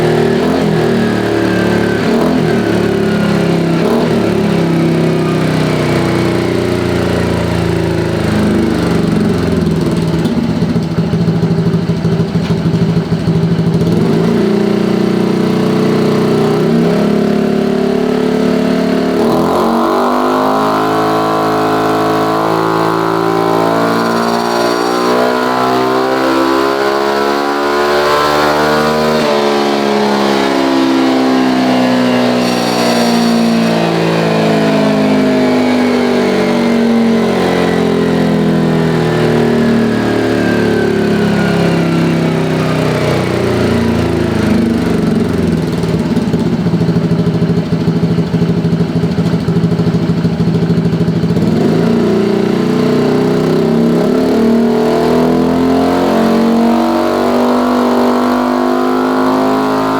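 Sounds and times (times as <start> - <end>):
scooter engine revving: 0.0 - 59.9.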